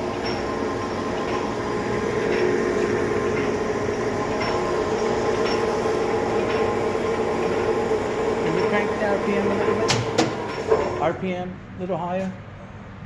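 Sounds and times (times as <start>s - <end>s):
lathe hum and gear whine: 0.0s - 12.0s.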